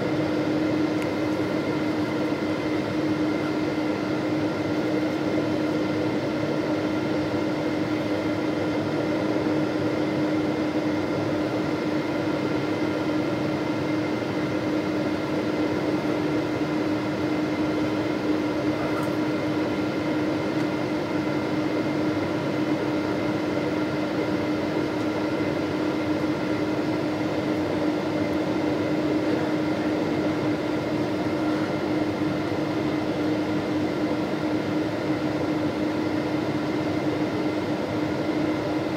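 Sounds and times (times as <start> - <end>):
airliner cabin engine rush: 0.0 - 38.9.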